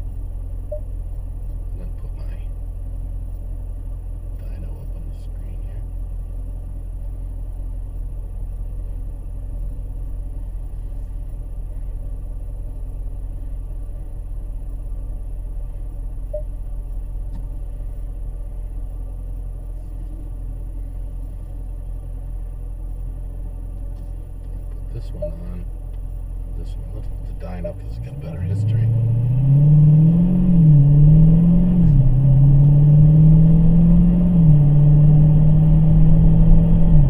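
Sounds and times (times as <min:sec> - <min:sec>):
car engine droning: 0:00.0 - 0:37.0.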